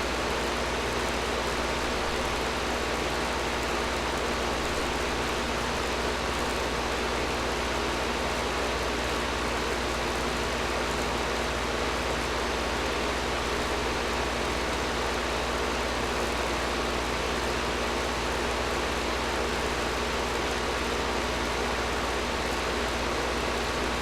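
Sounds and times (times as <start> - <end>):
air conditioner running: 0.0 - 24.0.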